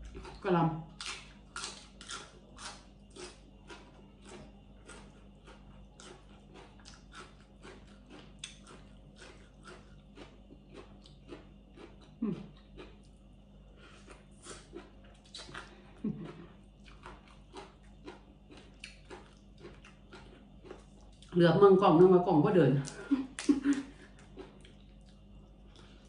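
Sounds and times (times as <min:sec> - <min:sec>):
crisp wet chewing: 0:00.0 - 0:21.4, 0:22.8 - 0:26.0.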